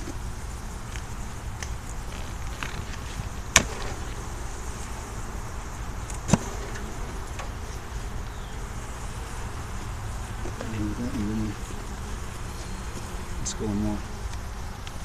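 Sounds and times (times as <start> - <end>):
honeybees buzzing: 0.0 - 15.0
sharp knocks on wooden hive box: 0.8 - 13.4.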